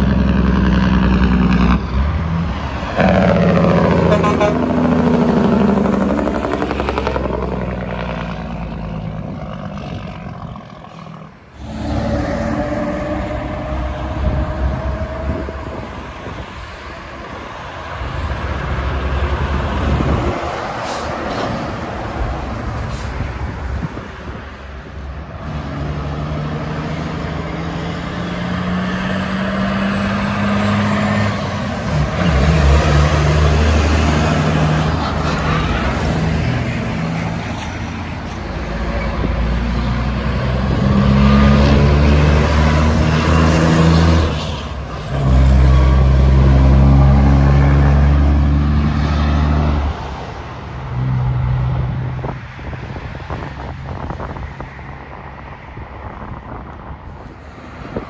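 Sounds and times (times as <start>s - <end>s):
diesel trucks passing: 0.0s - 58.0s
tyre and road noise: 0.0s - 58.0s.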